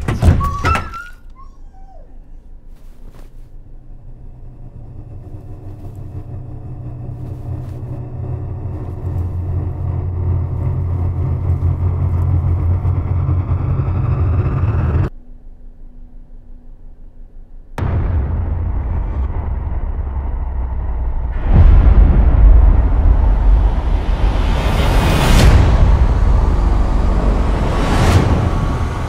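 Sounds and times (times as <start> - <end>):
low steady rumble: 1.2 - 29.0.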